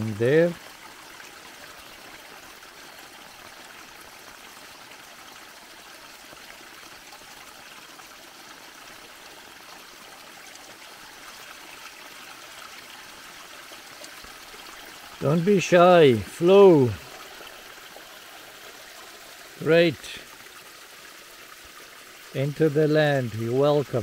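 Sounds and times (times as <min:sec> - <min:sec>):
water pouring over small dam: 0:00.0 - 0:24.0.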